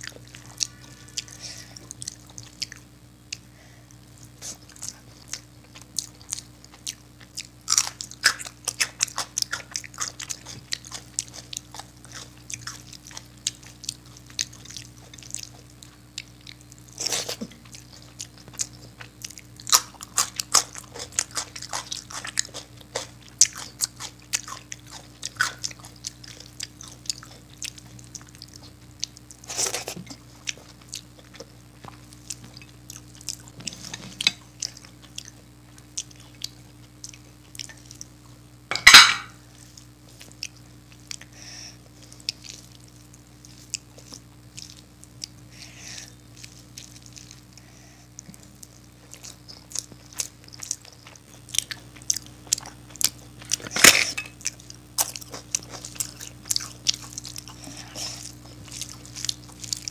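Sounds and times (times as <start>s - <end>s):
chewing and wet mouth sounds: 0.0s - 38.4s, 39.5s - 59.9s.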